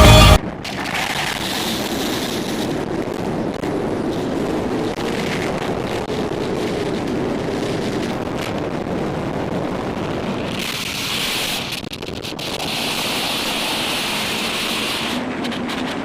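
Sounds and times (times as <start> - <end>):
strong wind buffeting microphone: 0.4 - 16.0.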